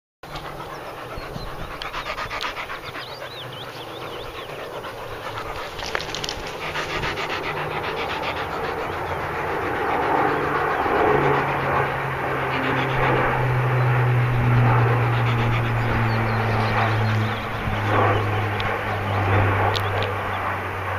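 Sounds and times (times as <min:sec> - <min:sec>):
propeller plane engines droning: 0:00.2 - 0:20.9.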